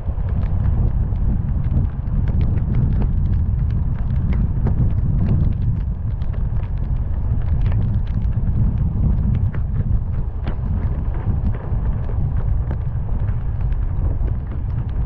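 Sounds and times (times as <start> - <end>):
car and road rumble: 0.0 - 15.0
heavy rain hitting a car: 0.0 - 15.0.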